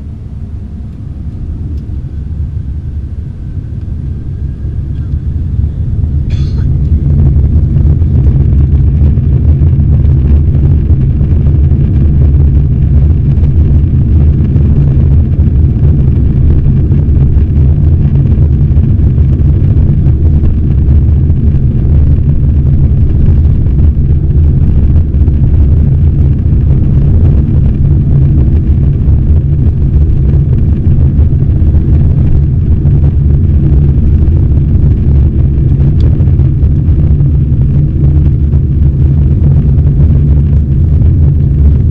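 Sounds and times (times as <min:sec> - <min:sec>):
airplane engines: 0:00.0 - 0:41.9
rushing air: 0:00.0 - 0:41.9.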